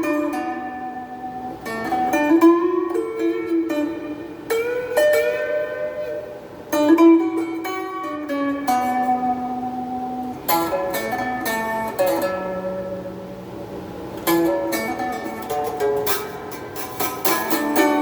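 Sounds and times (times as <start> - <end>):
electric guitar notes and chords: 0.0 - 18.0.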